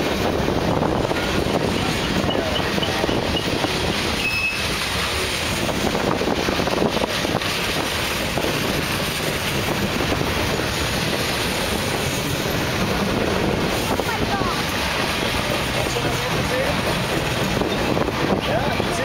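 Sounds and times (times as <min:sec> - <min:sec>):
freight train wheels rumbling on rails: 0:00.0 - 0:19.0.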